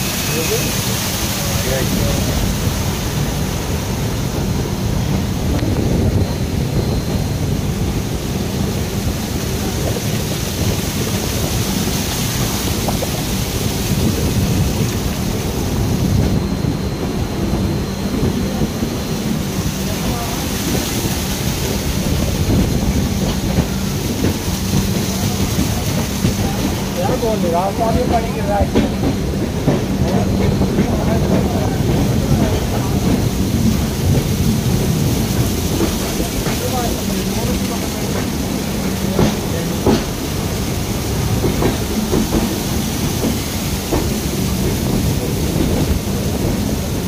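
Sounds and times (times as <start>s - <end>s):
heavy rain rushing: 0.0s - 47.0s
train rumbling: 0.0s - 47.0s.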